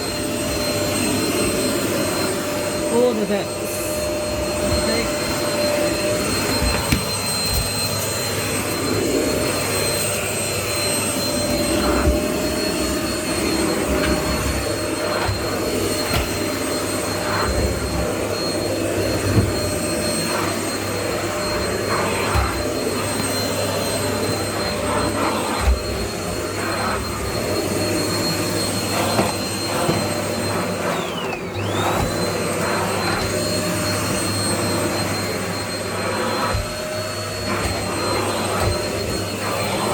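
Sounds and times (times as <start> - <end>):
stick vacuum cleaner whine: 0.0 - 39.9.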